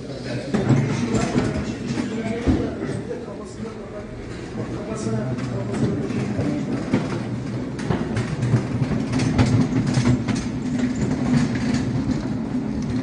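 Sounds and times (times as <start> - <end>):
stretcher rolling rumble: 0.0 - 13.0.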